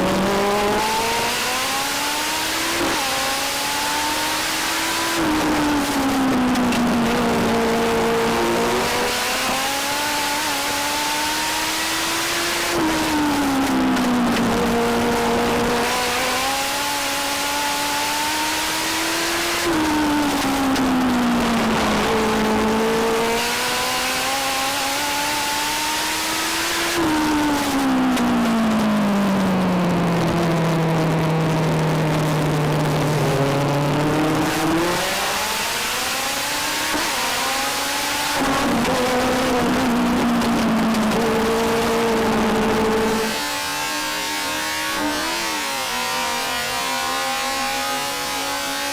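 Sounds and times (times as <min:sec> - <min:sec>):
race car engine: 0:00.0 - 0:48.9
wind and road noise: 0:00.0 - 0:48.9.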